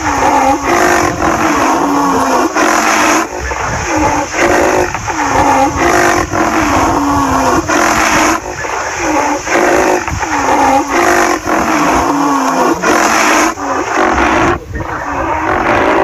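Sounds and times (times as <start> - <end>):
rhinoceros calf squealing: 0.0 - 16.0
steady rushing noise: 0.0 - 16.0.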